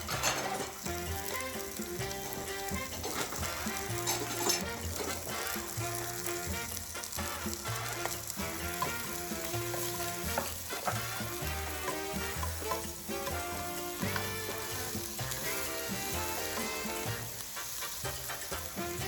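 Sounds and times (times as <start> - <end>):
background music with bass line: 0.0 - 19.0
onions sizzling in a pan: 0.0 - 19.0.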